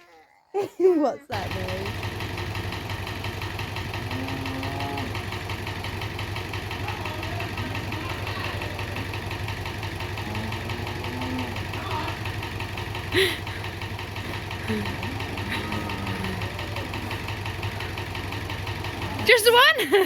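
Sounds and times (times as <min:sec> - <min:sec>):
farm vehicle engine idling: 0:01.0 - 0:20.0.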